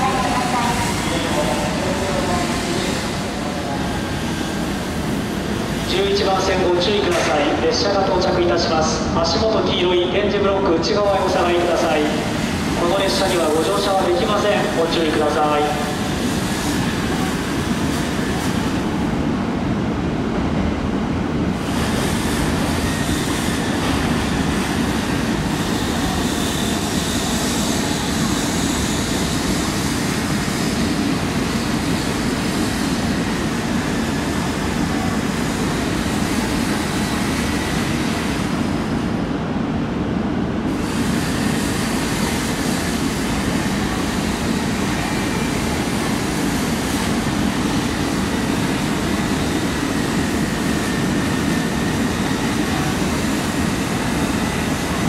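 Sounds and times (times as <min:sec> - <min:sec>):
train rumbling slowly: 0:00.0 - 0:55.0.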